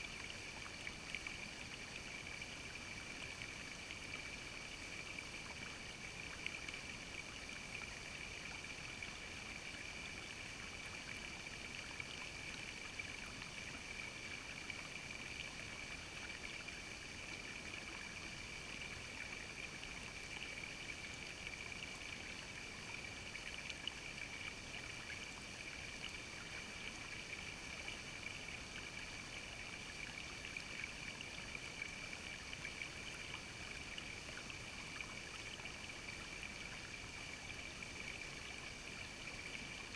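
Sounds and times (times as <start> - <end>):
creek water trickling over rocks: 0.0 - 39.9.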